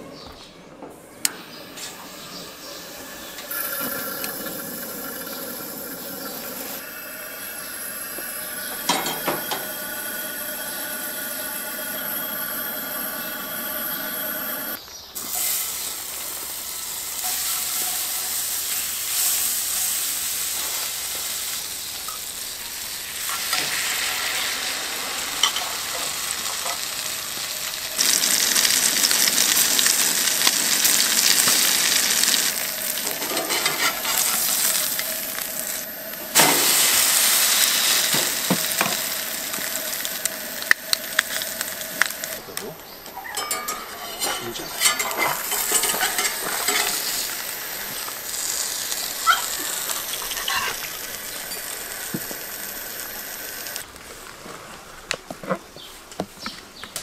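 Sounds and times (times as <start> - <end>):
gas burner hissing: 1.2 - 53.9
butter sizzling in frying pan: 2.6 - 42.4, 44.0 - 53.9.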